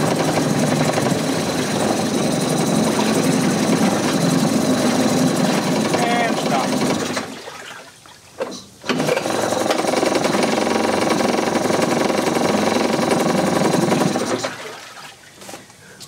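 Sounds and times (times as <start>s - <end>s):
outboard motor running: 0.0s - 7.8s, 8.4s - 15.0s.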